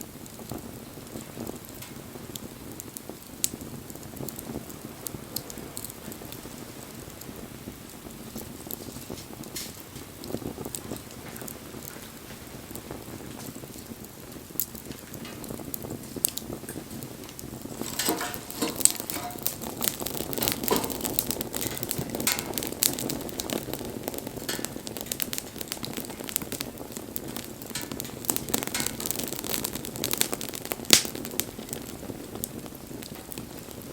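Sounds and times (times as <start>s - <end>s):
bonfire flames rumbling: 0.0s - 33.9s
faint fire crackles: 0.0s - 33.9s.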